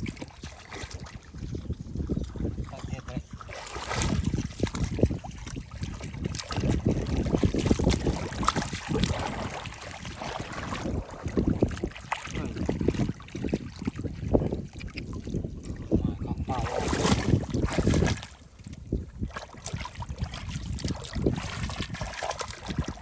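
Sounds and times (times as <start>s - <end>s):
splashing in shallow water: 0.0s - 23.0s
wind on microphone: 0.0s - 23.0s.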